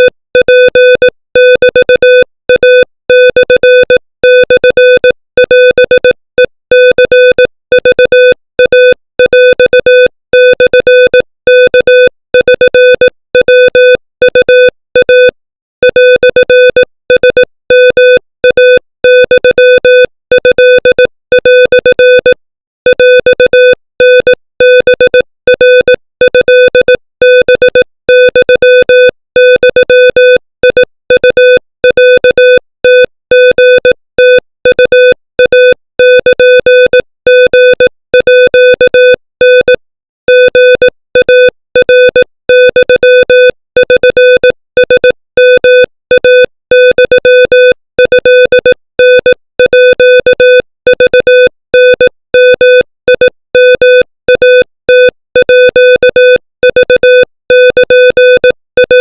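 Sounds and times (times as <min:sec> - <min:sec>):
morse code beeps: 0:00.0 - 0:59.0.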